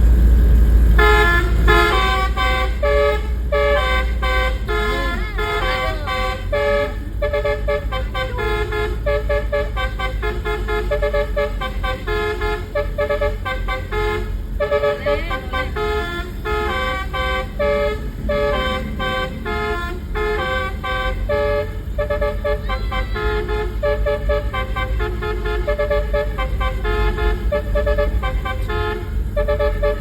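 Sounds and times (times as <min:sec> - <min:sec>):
engine running: 0:00.0 - 0:30.0
air horn playing a melody: 0:00.9 - 0:30.0.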